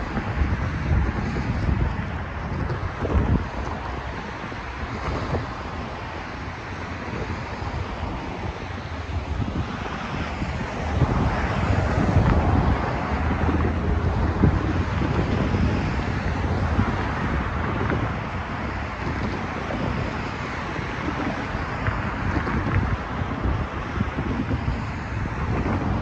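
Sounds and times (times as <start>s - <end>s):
road traffic passing: 0.0s - 26.0s
wind buffeting microphone: 0.0s - 26.0s.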